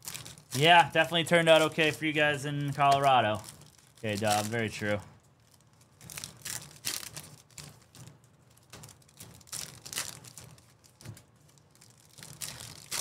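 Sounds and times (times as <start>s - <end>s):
foil wrappers crinkling: 0.0s - 13.0s.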